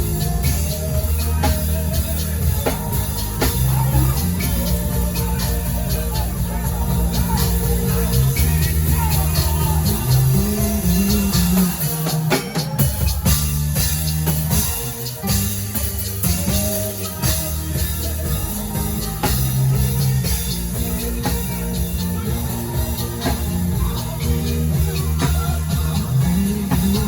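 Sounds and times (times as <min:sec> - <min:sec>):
bass and keyboard chords: 0:00.0 - 0:27.0
drum kit steady beat: 0:00.0 - 0:27.0.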